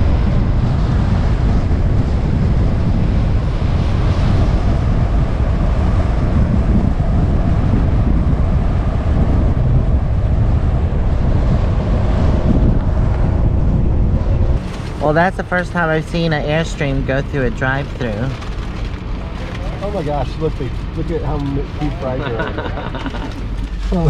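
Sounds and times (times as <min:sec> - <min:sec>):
vehicle road noise: 0:00.0 - 0:24.0
wind rumble on microphone: 0:00.0 - 0:24.0.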